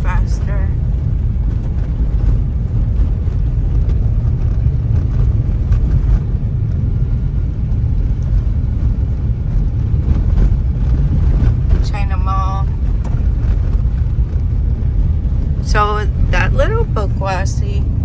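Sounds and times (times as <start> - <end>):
car engine and tyre noise: 0.0 - 18.0.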